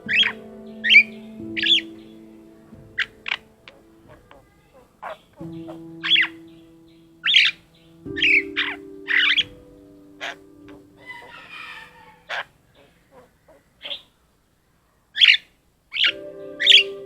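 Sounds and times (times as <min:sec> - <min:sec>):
starling singing: 0:00.0 - 0:14.2, 0:15.2 - 0:17.0.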